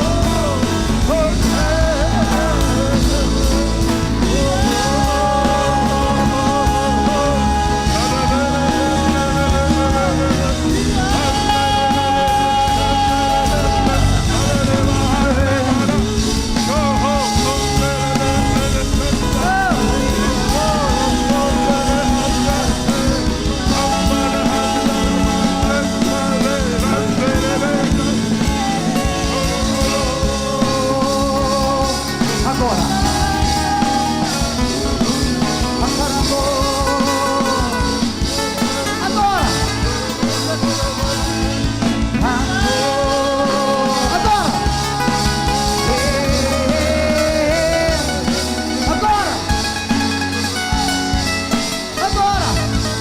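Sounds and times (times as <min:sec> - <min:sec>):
guitar: 0:00.0 - 0:53.0
person singing: 0:00.0 - 0:53.0
steady drum beat: 0:00.0 - 0:53.0.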